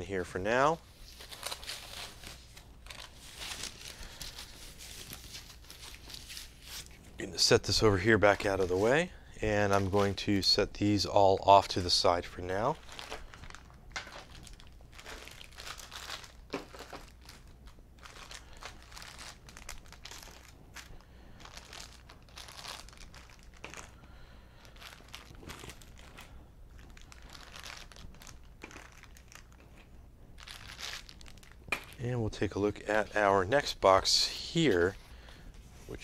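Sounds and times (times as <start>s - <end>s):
plastic bags crinkling: 0.1s - 7.0s, 7.7s - 35.0s.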